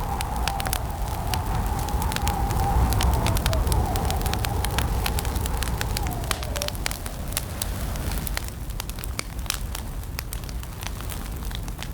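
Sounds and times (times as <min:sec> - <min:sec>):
campfire crackling: 0:00.0 - 0:11.9.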